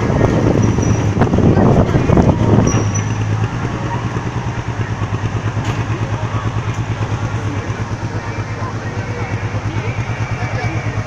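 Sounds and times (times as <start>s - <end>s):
heavy diesel engine running: 0.0s - 11.0s.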